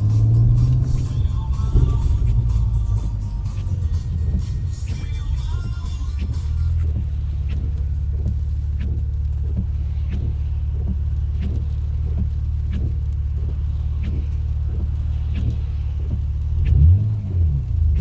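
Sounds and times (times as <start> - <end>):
sharp ticking: 0.0 - 16.8
car engine and road rumble: 0.0 - 18.0.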